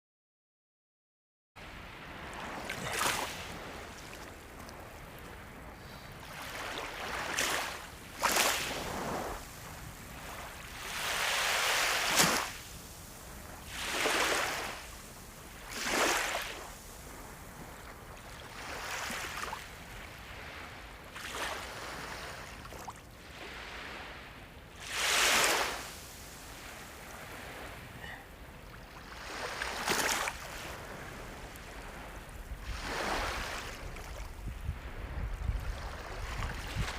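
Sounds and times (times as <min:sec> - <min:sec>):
sea waves breaking: 0:01.6 - 0:36.9
steady surf: 0:01.6 - 0:36.9.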